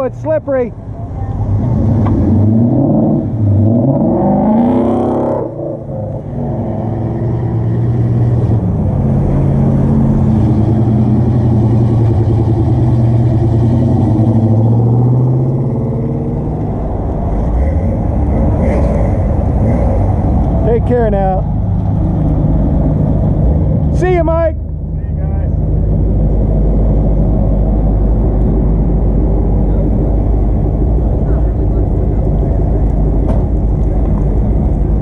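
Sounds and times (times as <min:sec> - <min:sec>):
vehicle engine revving: 0:01.2 - 0:35.0.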